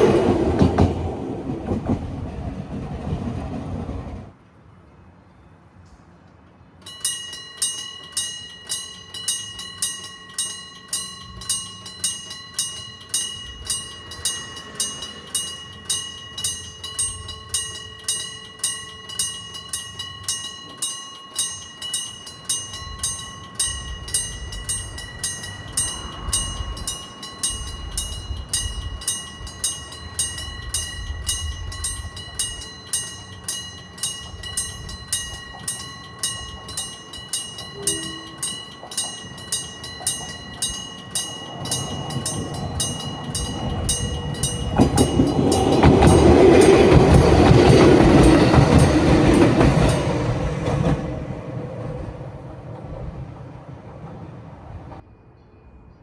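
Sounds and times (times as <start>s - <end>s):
train rumbling: 0.0s - 55.8s
railroad crossing bell ringing: 6.7s - 54.1s.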